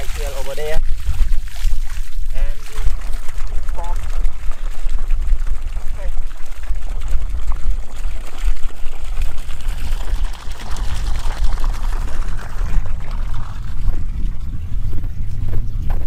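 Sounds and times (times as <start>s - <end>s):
steady low rumble: 0.0s - 16.0s
water gushing and splashing: 0.0s - 16.0s.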